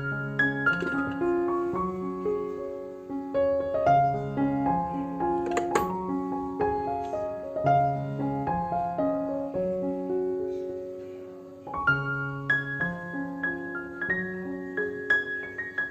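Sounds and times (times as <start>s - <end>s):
gentle solo piano melody: 0.0s - 15.9s.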